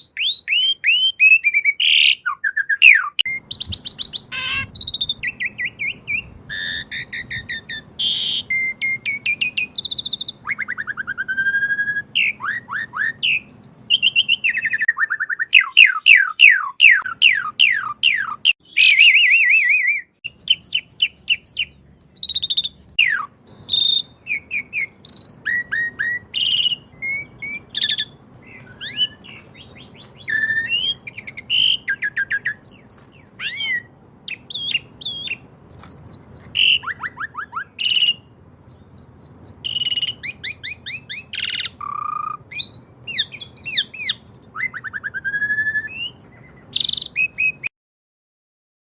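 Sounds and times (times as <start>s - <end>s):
starling singing: 0.0s - 47.7s.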